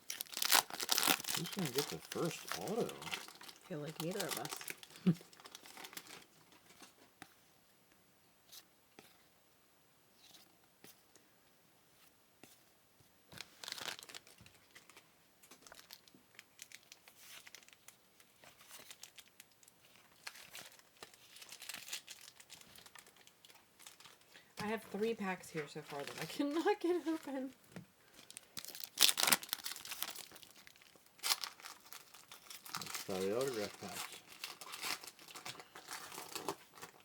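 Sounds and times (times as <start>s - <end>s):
card pack wrappers crinkling: 0.0s - 7.0s, 13.3s - 37.0s.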